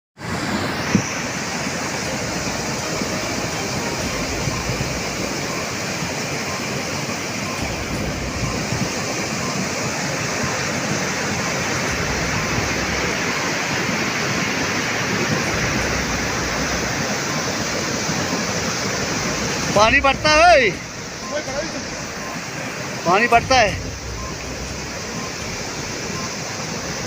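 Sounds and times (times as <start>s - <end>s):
floodwater rushing: 0.2s - 27.0s.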